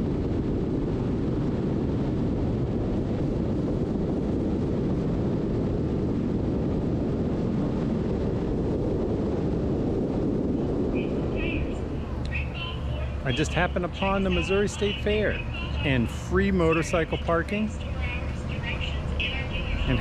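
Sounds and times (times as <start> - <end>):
wind buffeting microphone: 0.0 - 20.0
wind rush and road noise: 0.0 - 20.0.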